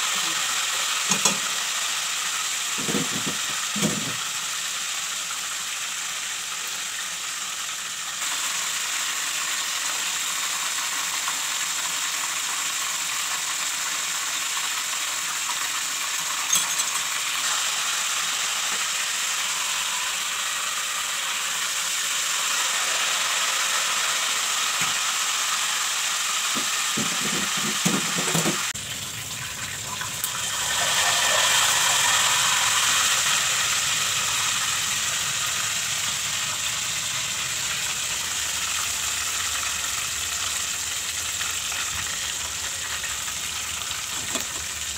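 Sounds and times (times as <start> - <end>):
chicken sizzling in hot oil: 0.0 - 44.9.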